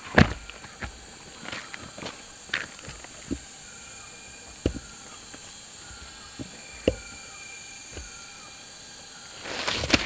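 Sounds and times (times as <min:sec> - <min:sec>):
dull thumps: 0:00.0 - 0:09.0
bird whistling: 0:00.0 - 0:09.6
high insect drone: 0:00.0 - 0:10.0.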